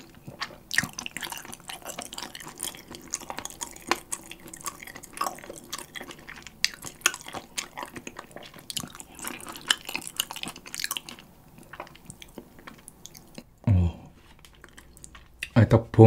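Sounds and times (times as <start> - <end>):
close-miked wet chewing: 0.0 - 15.6.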